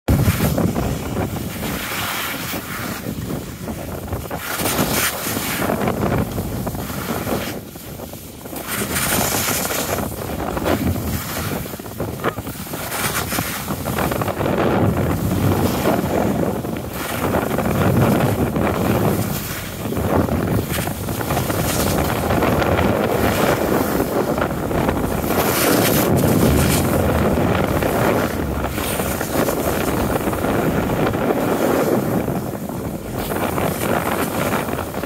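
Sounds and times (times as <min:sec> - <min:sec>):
wind rushing over microphone: 0:00.1 - 0:35.0
skis scraping over packed snow: 0:00.2 - 0:35.0.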